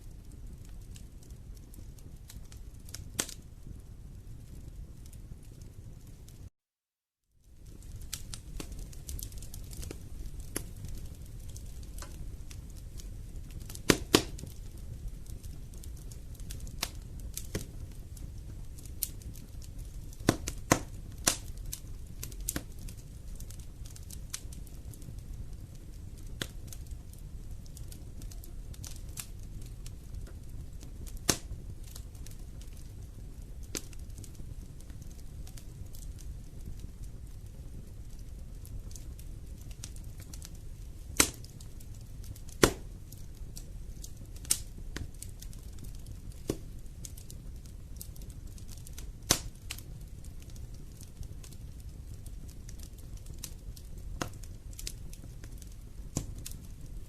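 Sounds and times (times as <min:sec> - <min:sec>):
wood fire crackling and popping: 0:00.0 - 0:06.5, 0:07.4 - 0:57.0.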